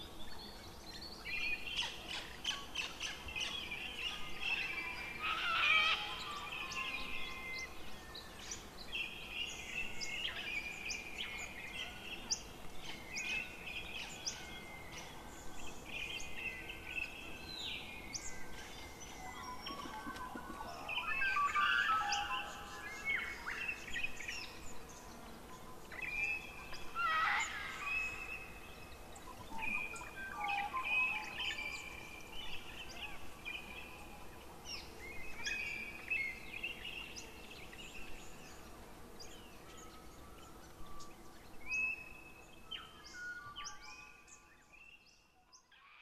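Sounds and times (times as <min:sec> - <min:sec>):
birds chirping and singing: 0:00.0 - 0:46.0
faint steady hiss: 0:00.0 - 0:46.0.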